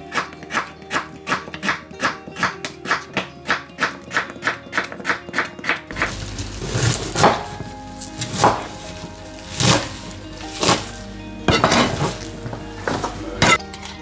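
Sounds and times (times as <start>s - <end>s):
plucked guitar music with beat: 0.2s - 14.0s.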